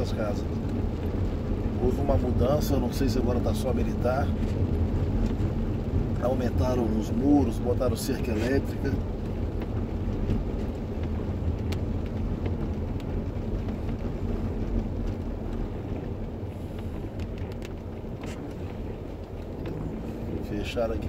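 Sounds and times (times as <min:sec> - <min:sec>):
engine and tyres rumbling: 0:00.0 - 0:21.0.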